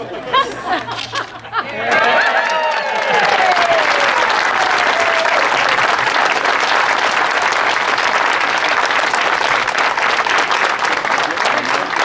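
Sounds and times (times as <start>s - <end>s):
crowd applauding: 1.0s - 12.0s.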